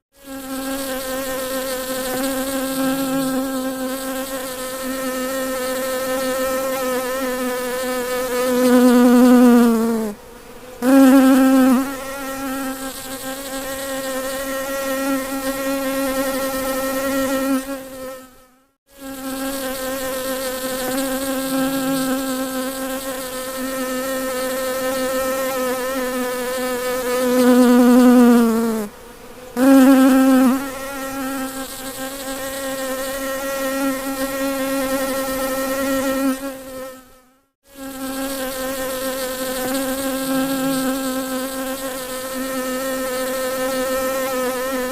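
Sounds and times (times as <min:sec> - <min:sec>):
bumblebee buzzing: 0:00.2 - 0:44.9.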